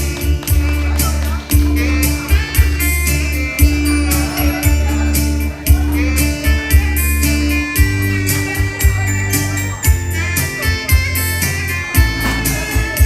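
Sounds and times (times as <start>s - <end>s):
steady drum beat: 0.0s - 10.2s, 10.8s - 13.0s
guitar: 0.0s - 13.0s
sustained bass line: 0.0s - 13.0s.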